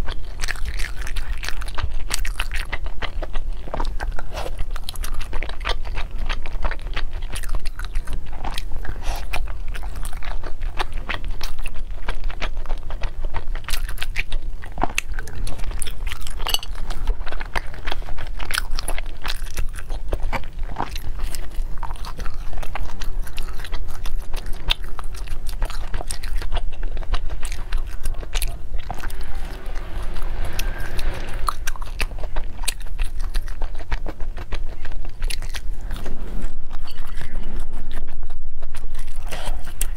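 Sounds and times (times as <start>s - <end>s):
chewing soft food: 0.0s - 39.9s.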